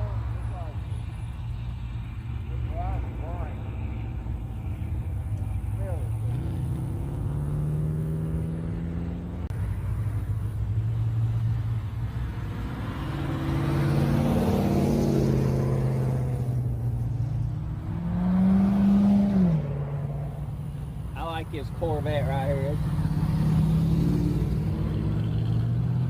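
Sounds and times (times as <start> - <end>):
car engines driving by: 0.0 - 26.0
engine revving: 0.0 - 26.0.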